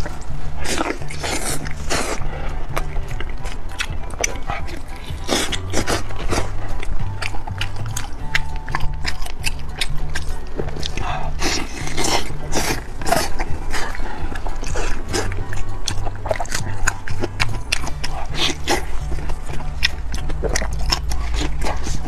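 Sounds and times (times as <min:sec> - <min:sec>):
chewing meat: 0:00.0 - 0:22.0
mouth clicks: 0:00.0 - 0:22.0.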